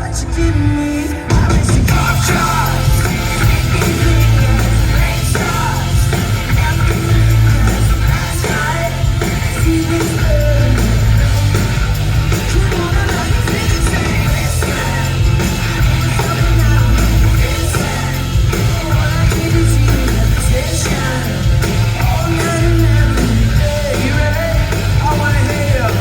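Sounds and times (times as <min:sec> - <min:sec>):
bass guitar: 0:00.0 - 0:26.0
drums: 0:00.0 - 0:26.0
lead vocal singing: 0:00.0 - 0:26.0
rock band playing: 0:00.0 - 0:26.0.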